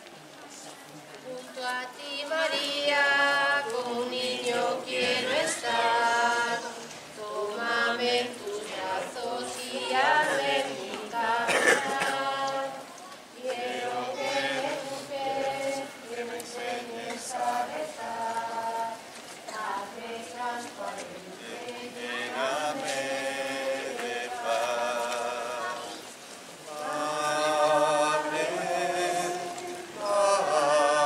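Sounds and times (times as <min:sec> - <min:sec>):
group singing a hymn unaccompanied: 0:01.4 - 0:31.0.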